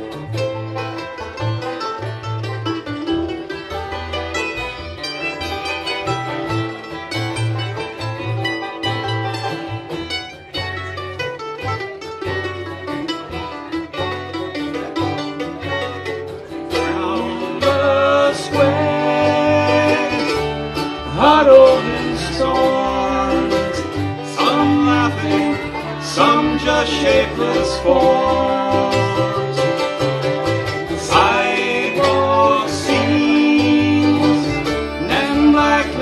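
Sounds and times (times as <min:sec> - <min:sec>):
bluegrass band playing: 0:00.0 - 0:36.0
fiddle lead with sliding notes: 0:00.0 - 0:36.0.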